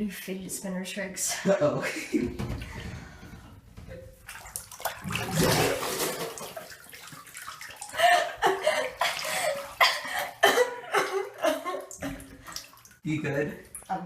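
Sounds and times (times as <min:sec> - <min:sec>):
water sloshing in a bathtub: 0:01.3 - 0:14.0.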